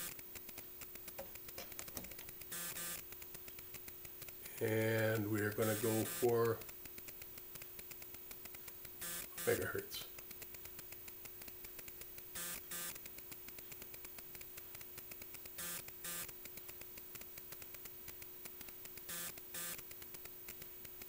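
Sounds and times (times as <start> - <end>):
electronic hum: 0.0 - 21.0
static crackle: 0.0 - 21.0.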